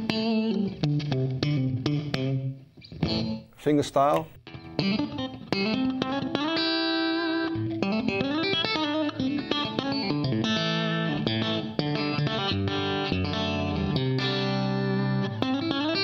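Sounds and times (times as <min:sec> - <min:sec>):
clean electric guitar fingerstyle: 0:00.0 - 0:16.0.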